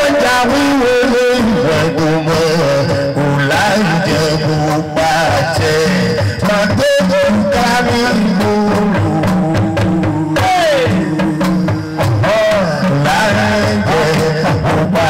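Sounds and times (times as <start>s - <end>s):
drums and percussion: 0.0s - 15.0s
man singing into microphone: 0.0s - 15.0s.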